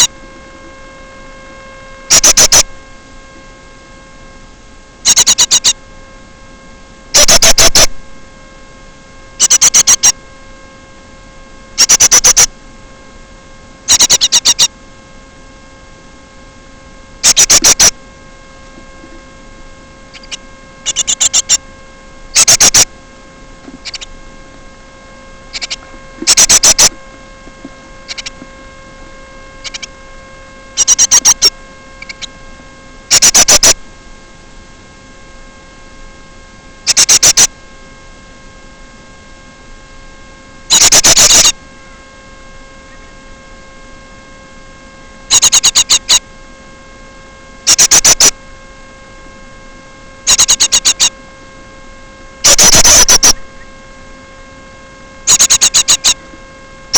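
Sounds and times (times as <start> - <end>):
electrical mains hum: 0.0 - 56.9.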